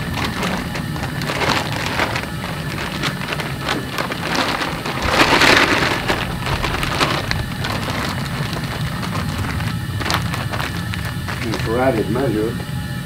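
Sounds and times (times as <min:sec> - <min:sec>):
plastic sleeve crinkling: 0:00.0 - 0:12.7.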